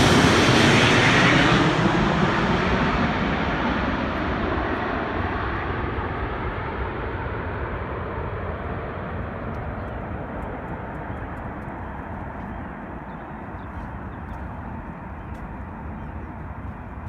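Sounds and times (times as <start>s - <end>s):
jet airliner engine noise: 0.0s - 17.0s.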